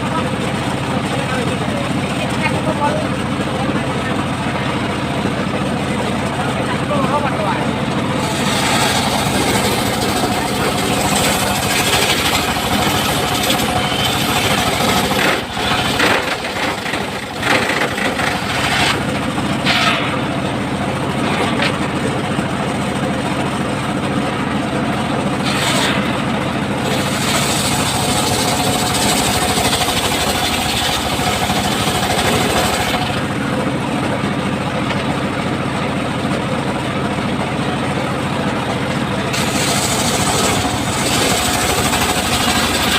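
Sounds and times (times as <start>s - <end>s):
saw mill machine drone: 0.0s - 42.9s.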